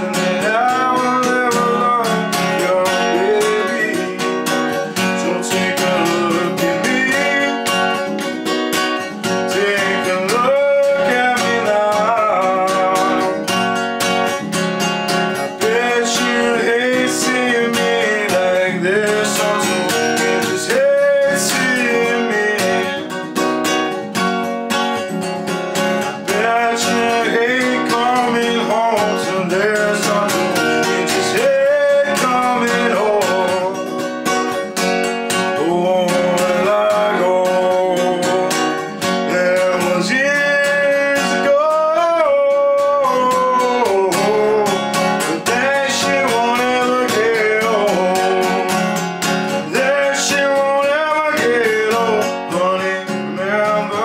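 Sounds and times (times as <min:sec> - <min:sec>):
man singing: 0:00.0 - 0:24.1, 0:25.6 - 0:54.0
acoustic guitar strummed: 0:00.0 - 0:54.0.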